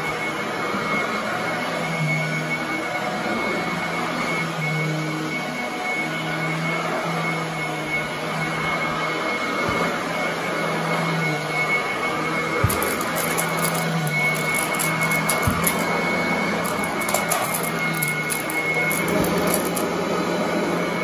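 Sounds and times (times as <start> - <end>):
vacuum cleaner whining: 0.0 - 21.0.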